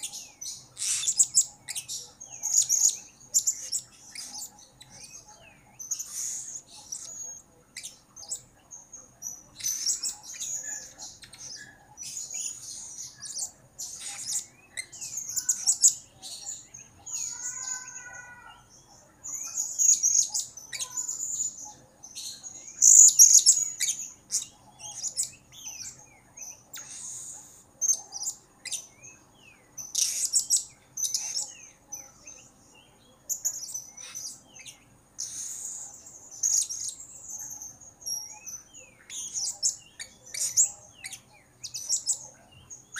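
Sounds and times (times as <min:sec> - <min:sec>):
parrot chirping and twittering: 0:00.0 - 0:32.7, 0:33.3 - 0:42.9.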